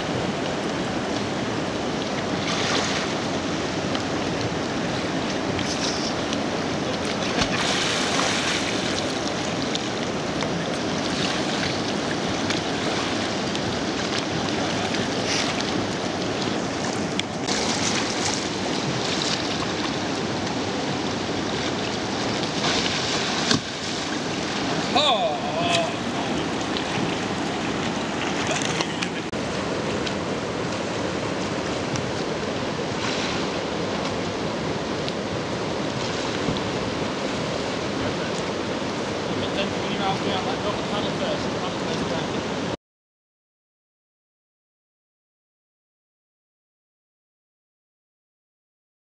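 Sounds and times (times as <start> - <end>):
water splashes: 0.0 - 42.7
river water rushing: 0.0 - 42.8.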